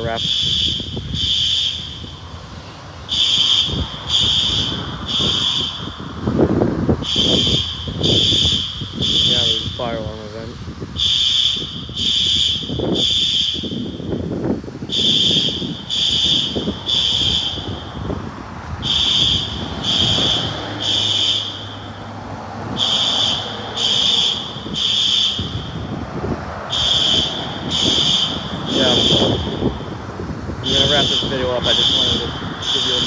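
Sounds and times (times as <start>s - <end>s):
fire alarm horn blasts: 0.0s - 33.0s.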